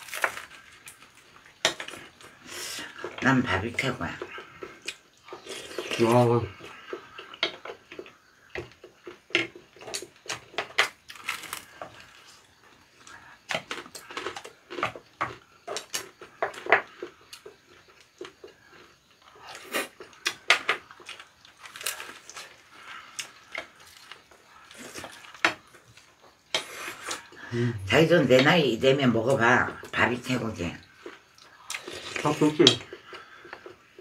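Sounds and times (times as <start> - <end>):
crunchy chewing: 0.0 - 27.6, 29.2 - 34.0.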